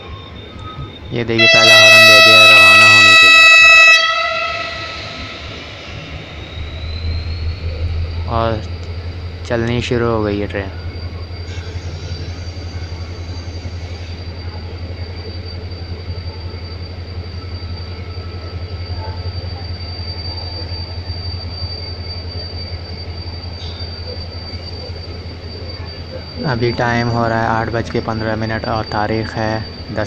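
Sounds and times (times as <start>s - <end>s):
diesel train drone: 0.0s - 30.0s
high steady whine: 0.0s - 30.0s.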